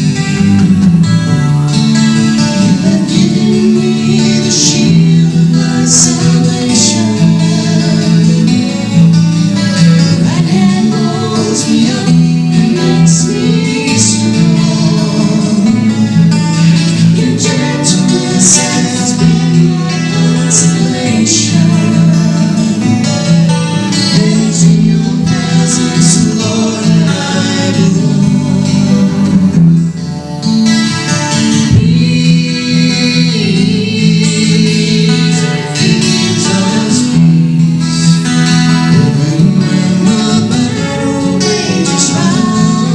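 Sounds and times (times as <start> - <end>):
acoustic guitar: 0.0 - 42.9
person singing a hymn: 0.0 - 42.9.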